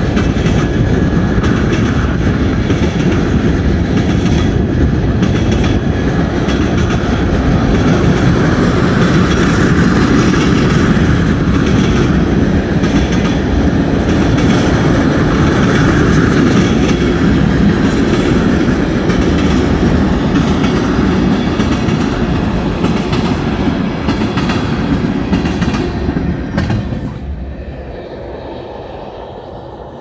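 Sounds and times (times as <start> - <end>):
wheels clicking over rail joints: 0.0 - 27.0
freight train rolling past: 0.0 - 30.0.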